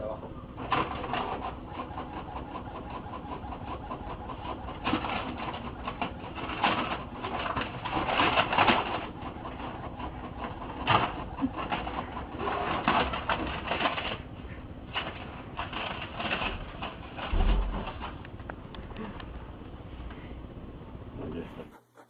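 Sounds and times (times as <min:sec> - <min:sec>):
inkjet printer pulsing chatter: 0:00.0 - 0:18.2, 0:21.2 - 0:22.0.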